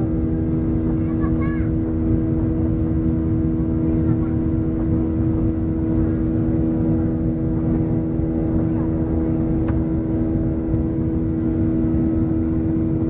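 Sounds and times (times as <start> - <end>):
jet engines droning: 0.0 - 13.0.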